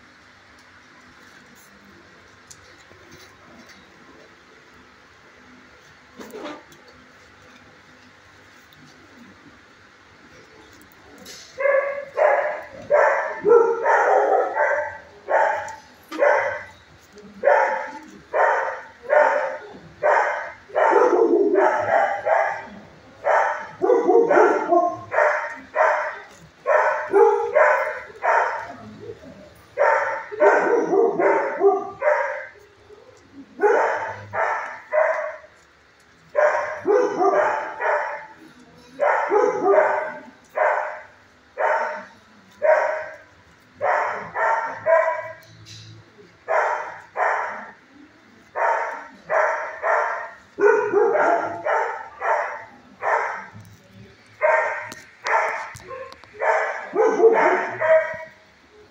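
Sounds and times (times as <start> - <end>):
dogs barking: 10.4 - 58.9.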